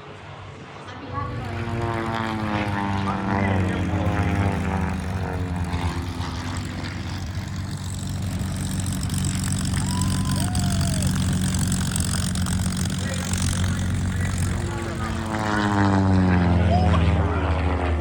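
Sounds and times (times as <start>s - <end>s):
low engine drone: 0.0s - 18.0s
propeller airplane flying past: 0.0s - 18.0s.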